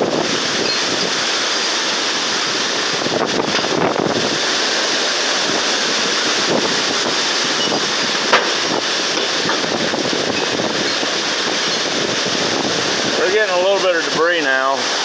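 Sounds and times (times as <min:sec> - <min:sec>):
strong wind rushing: 0:02.5 - 0:15.0.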